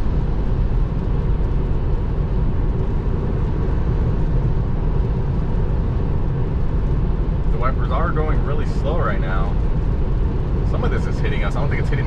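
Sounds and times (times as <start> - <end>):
road and tyre noise on wet road: 0.0 - 12.0.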